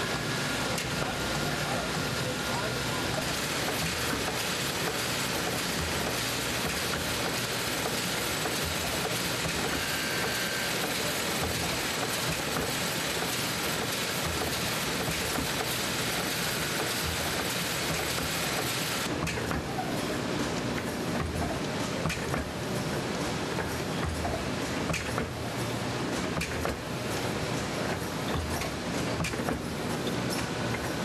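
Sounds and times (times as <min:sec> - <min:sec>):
sheet-handling machine running: 0:00.0 - 0:31.0.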